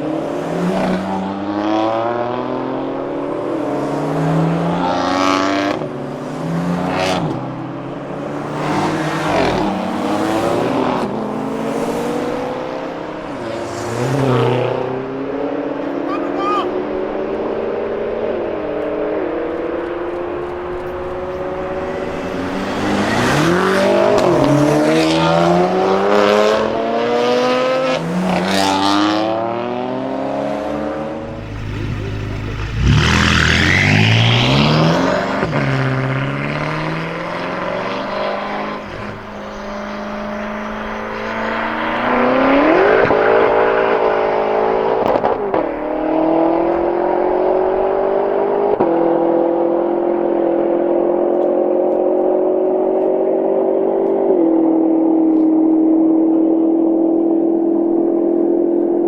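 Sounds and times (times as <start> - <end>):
car engine accelerating through upshifts: 0.0 - 59.0.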